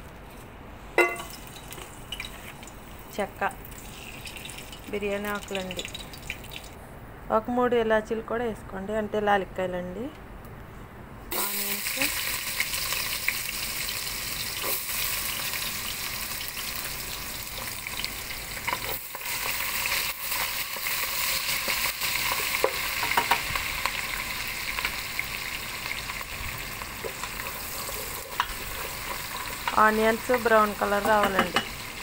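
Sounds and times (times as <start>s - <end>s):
onions sizzling in hot oil: 1.0s - 6.6s, 11.3s - 32.0s.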